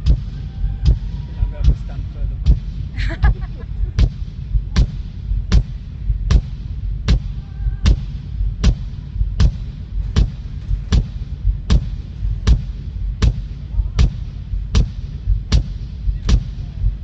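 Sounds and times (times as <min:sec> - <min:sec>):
kick drum thuds in echoing hall: 0:00.0 - 0:17.0.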